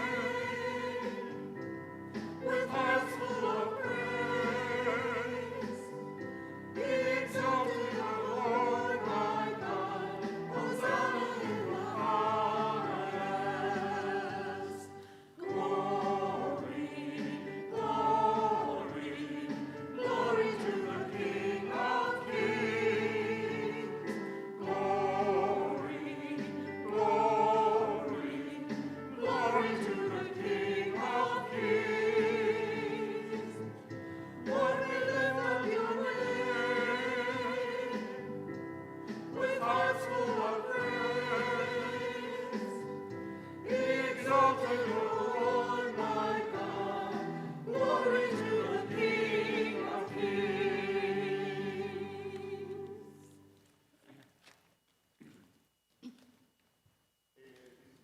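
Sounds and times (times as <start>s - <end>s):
choir singing a hymn: 0.0s - 53.4s
instrumental accompaniment: 0.0s - 53.6s.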